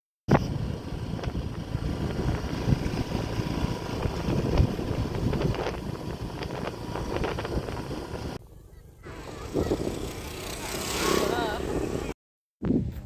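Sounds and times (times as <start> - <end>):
wind buffeting microphone: 0.3 - 8.4, 9.3 - 13.0.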